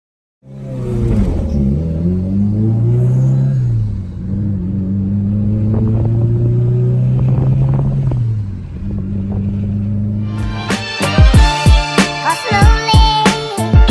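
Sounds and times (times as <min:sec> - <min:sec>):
car engine running: 0:00.4 - 0:13.5.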